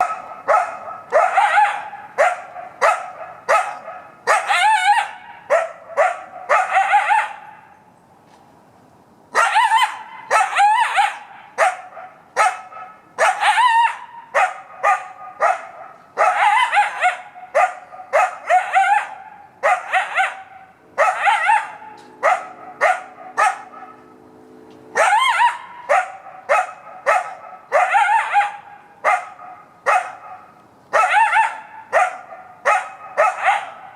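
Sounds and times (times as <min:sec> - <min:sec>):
coyote barking and yelping: 0:00.0 - 0:07.8, 0:09.3 - 0:24.2, 0:24.9 - 0:33.9.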